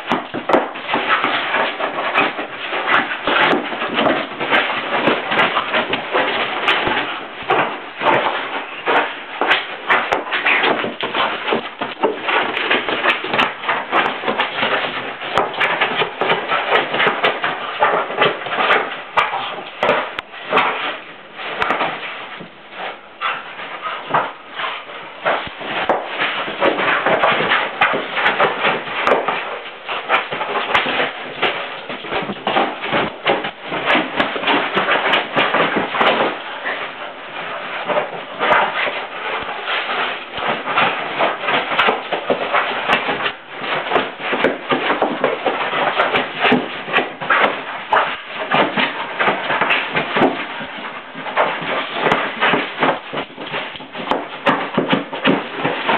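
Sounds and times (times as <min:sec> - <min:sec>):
balloon bouncing and rolling: 0:00.0 - 0:55.9
dog claws scrabbling on balloon: 0:00.0 - 0:55.9.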